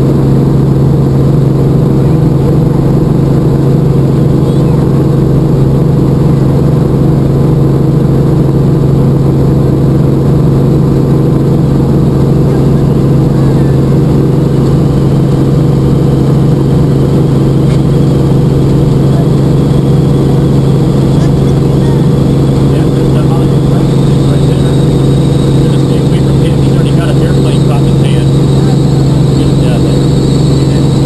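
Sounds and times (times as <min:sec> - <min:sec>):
helicopter engine and rotor drone: 0:00.0 - 0:31.0.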